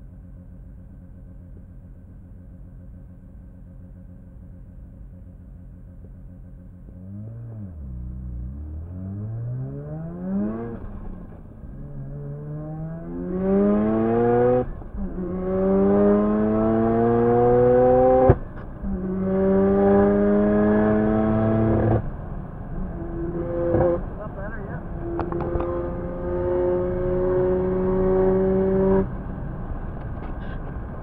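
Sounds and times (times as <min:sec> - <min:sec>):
car engine at full throttle: 0:00.0 - 0:31.0.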